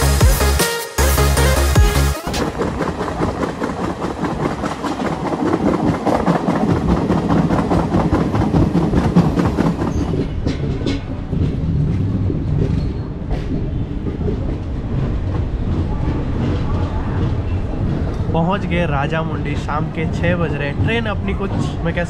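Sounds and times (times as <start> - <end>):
sharp rail clacks: 2.3 - 22.0
train wheels clattering over rails: 2.3 - 22.0.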